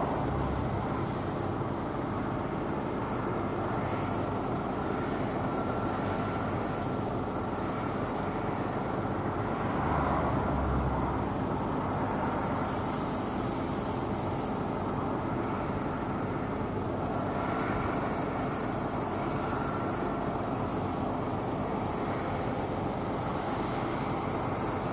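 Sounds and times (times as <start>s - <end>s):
combine harvester engine drone: 0.0s - 24.9s.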